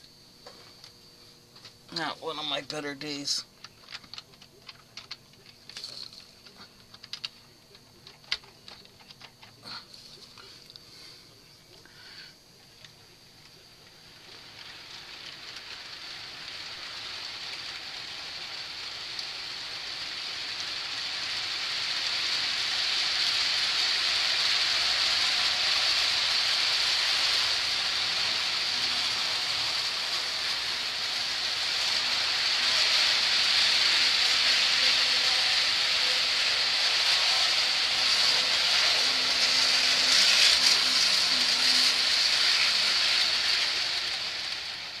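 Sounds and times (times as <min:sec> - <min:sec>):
model train rolling on track: 0:00.0 - 0:01.0, 0:01.6 - 0:45.0.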